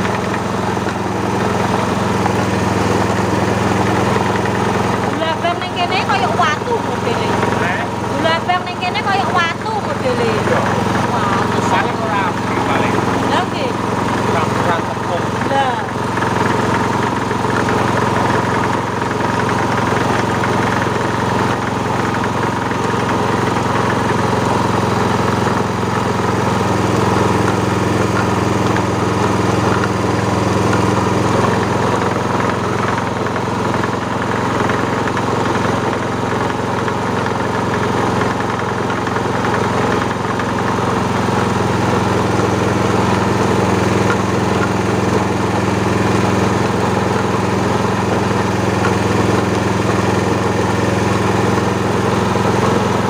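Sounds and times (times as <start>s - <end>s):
motor grinder humming: 0.0s - 53.0s.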